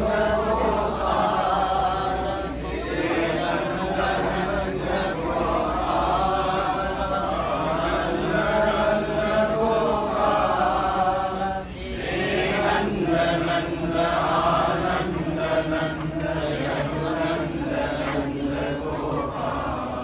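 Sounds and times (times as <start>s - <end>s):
group chanting: 0.0s - 20.0s.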